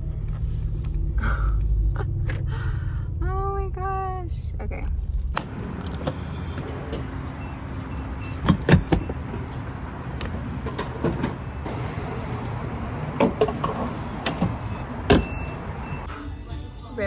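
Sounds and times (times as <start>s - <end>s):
car rumble: 0.0s - 16.6s.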